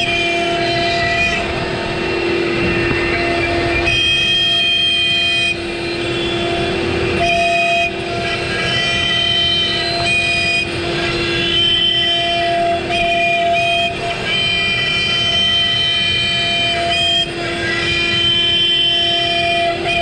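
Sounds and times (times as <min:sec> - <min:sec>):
router spindle whining: 0:00.0 - 0:20.0.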